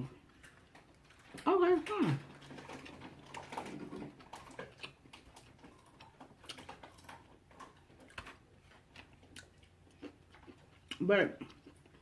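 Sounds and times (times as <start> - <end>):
person chewing food: 0.0 - 1.5, 2.1 - 12.0.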